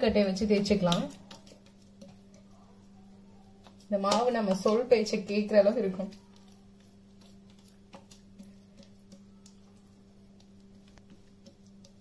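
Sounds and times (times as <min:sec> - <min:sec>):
hand pressing dough on countertop: 0:00.0 - 0:12.0
low steady hum: 0:00.0 - 0:12.0.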